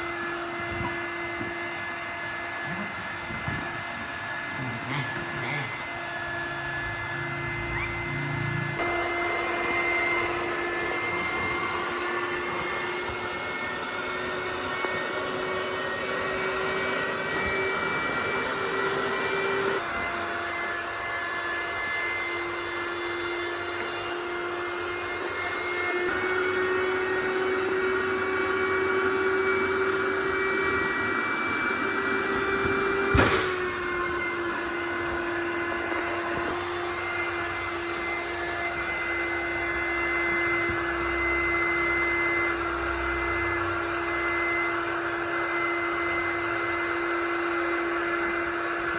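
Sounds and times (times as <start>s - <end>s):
electric air pump whining: 0.0s - 48.9s.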